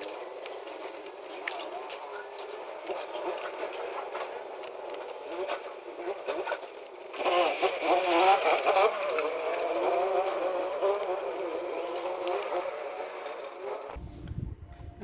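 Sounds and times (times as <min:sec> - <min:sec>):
power tool motor buzzing: 0:00.0 - 0:14.0.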